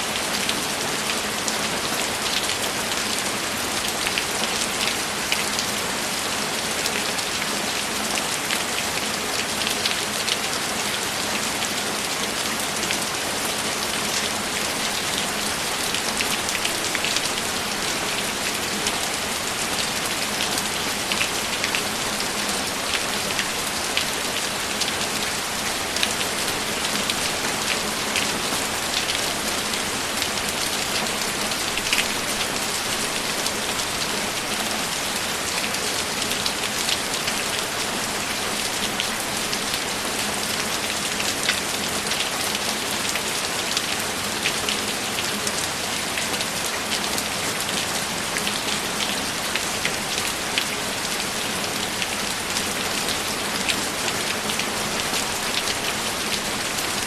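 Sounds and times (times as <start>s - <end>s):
raindrops pattering on a surface: 0.1s - 57.0s.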